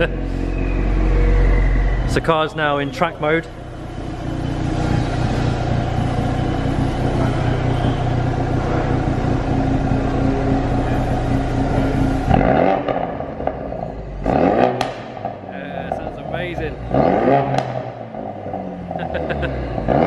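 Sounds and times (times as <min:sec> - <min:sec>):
car engine idling: 0:00.0 - 0:20.0
engine revving: 0:00.0 - 0:20.0.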